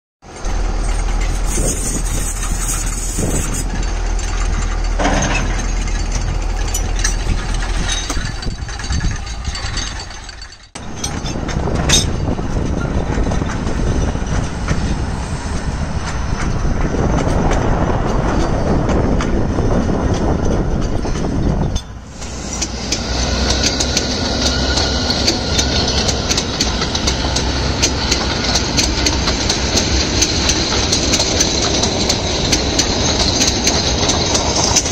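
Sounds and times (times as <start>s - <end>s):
locomotive engine running: 0.2s - 34.9s
train wagons rattling over track: 0.2s - 34.9s.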